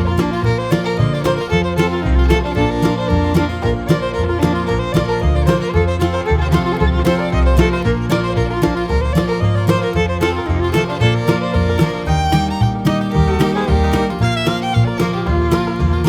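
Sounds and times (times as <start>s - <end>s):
upbeat bluegrass tune: 0.0s - 16.0s.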